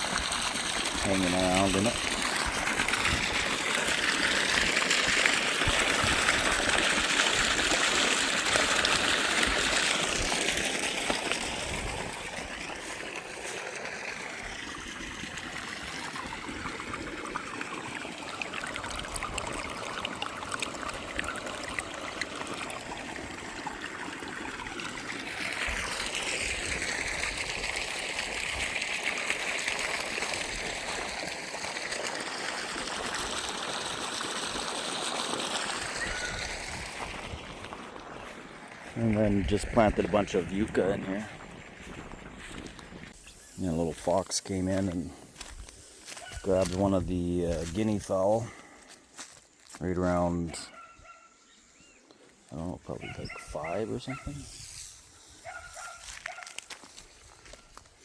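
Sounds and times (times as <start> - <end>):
water trickling and splashing: 0.0 - 50.9, 51.6 - 58.0.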